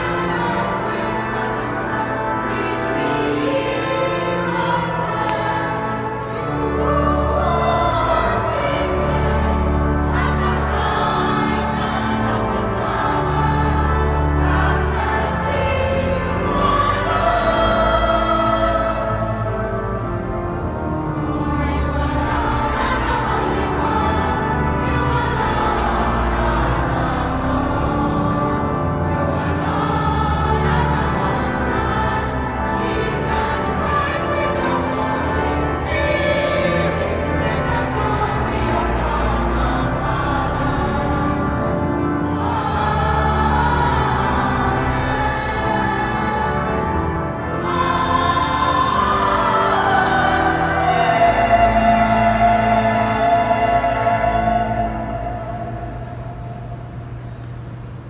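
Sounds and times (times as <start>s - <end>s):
choir singing sacred music: 0.0s - 58.0s
organ playing: 0.0s - 58.0s.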